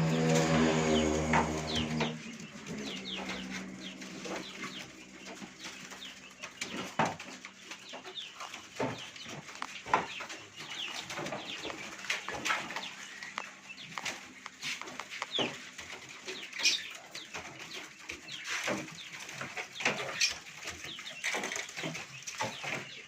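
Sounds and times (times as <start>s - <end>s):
caged songbirds chirping: 0.0s - 23.0s.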